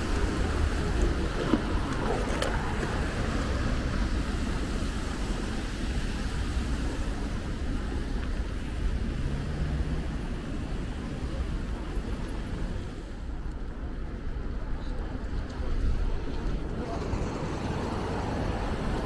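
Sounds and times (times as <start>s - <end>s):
city street traffic: 0.0s - 19.0s
wind rumble on microphone: 0.0s - 19.0s.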